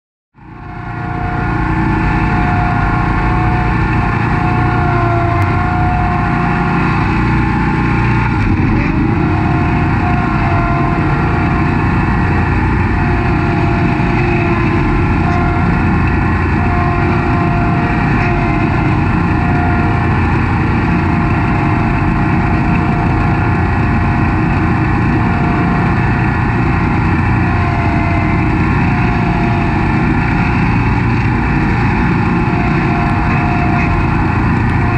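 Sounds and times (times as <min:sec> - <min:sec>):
high whine: 0:00.4 - 0:34.9
mower engine running: 0:00.4 - 0:34.9.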